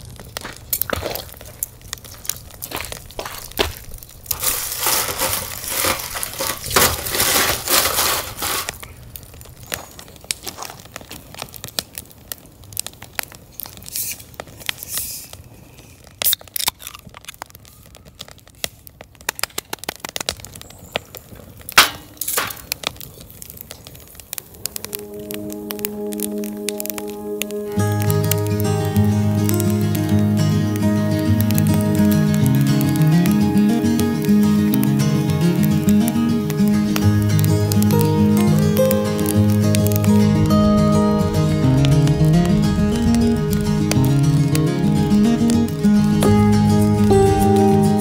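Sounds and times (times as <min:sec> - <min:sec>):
dense crackling and rustling: 0:00.0 - 0:48.0
wood fire crackling and popping: 0:00.0 - 0:48.0.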